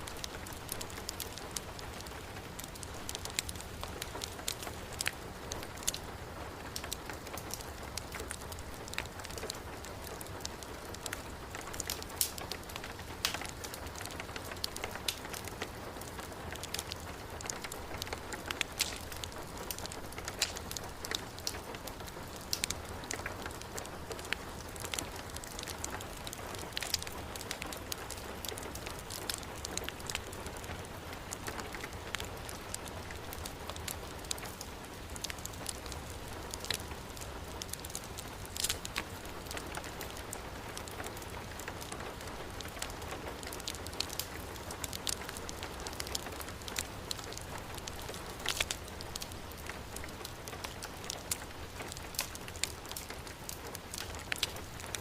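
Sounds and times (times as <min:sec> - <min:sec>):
heavy rain: 0:00.0 - 0:55.0
wood fire crackling: 0:00.0 - 0:55.0.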